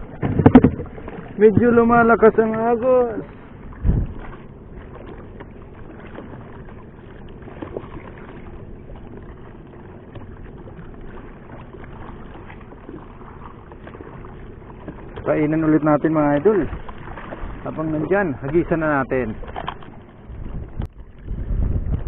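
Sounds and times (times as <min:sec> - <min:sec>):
water washing against boat hull: 0:00.0 - 0:22.0.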